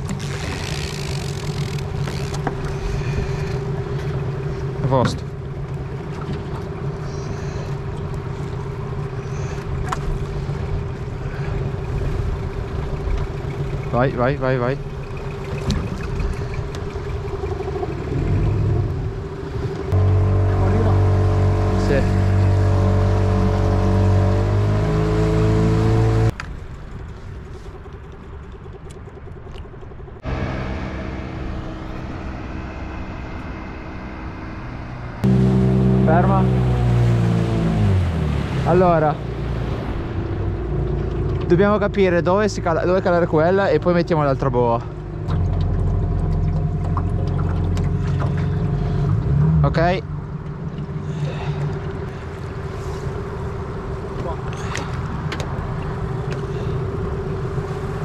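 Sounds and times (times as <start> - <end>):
outboard motor idling: 0.0 - 58.0.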